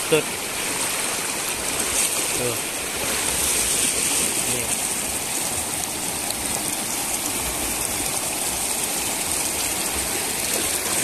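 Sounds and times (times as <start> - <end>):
floodwater flowing: 0.0 - 11.0.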